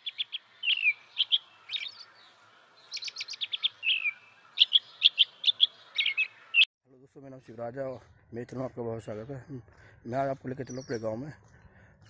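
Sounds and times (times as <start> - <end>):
songbird singing: 0.0 - 6.7, 8.3 - 11.7
faint rural background: 0.0 - 12.0.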